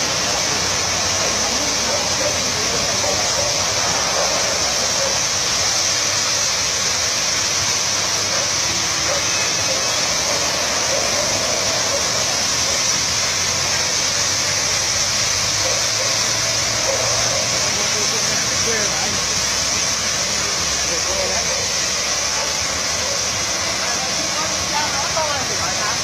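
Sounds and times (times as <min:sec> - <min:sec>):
high-pressure water jets hissing: 0:00.0 - 0:26.0.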